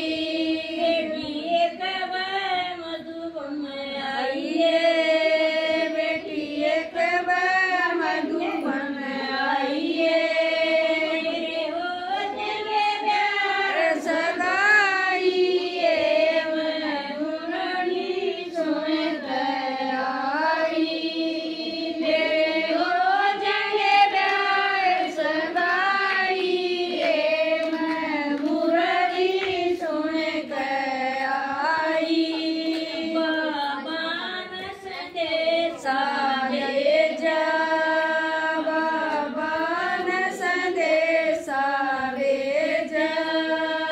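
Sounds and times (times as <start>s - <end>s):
woman singing devotional song: 0.0s - 43.9s.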